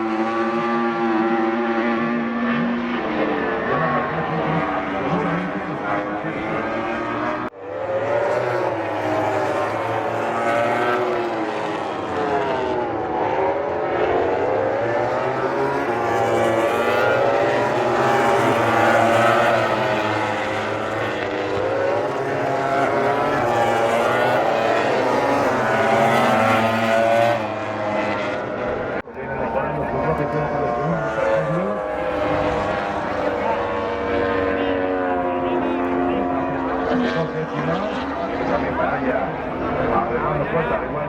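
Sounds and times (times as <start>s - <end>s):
racing motorcycle engines: 0.0s - 41.0s.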